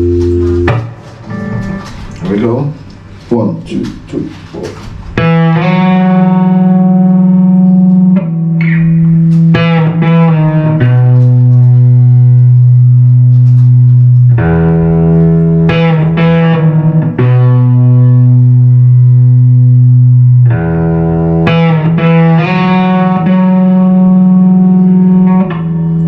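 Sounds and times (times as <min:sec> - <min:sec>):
electric guitar slow melody: 0:00.0 - 0:02.3, 0:05.0 - 0:26.0.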